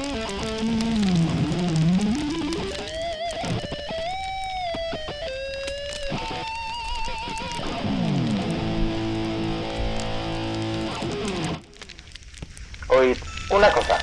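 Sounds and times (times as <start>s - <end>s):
electric guitar with vibrato: 0.0s - 11.8s.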